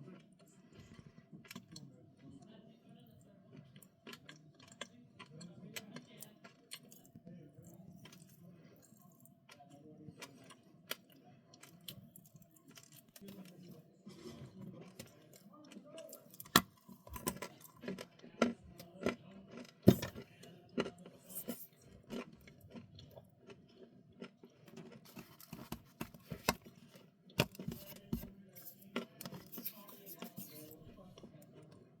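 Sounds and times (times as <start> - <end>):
chewing crunchy snacks: 0.0 - 1.9, 3.5 - 31.9.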